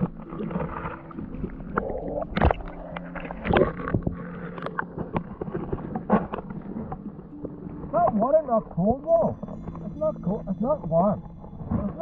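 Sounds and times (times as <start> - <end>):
underwater water gurgling: 0.0 - 12.0.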